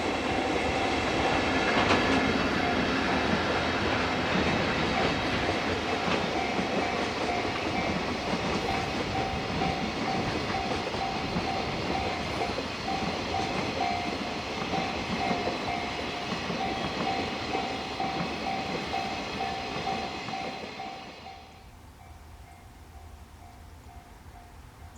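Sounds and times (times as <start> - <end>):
train wheels clattering: 0.0 - 21.6.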